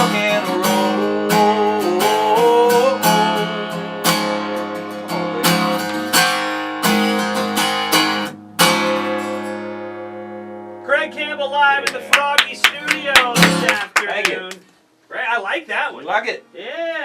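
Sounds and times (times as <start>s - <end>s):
acoustic guitar strumming: 0.0s - 14.5s.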